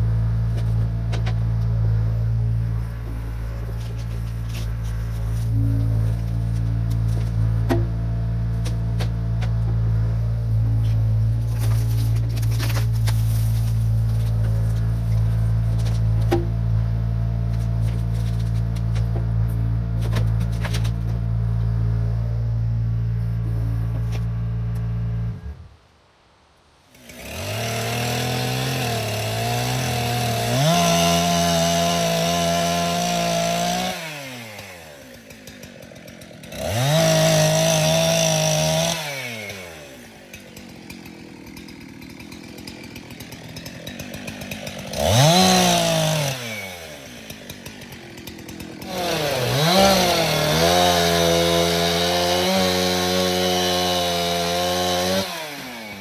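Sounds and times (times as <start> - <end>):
chainsaw revving and idling: 0.0 - 25.6, 26.9 - 56.0.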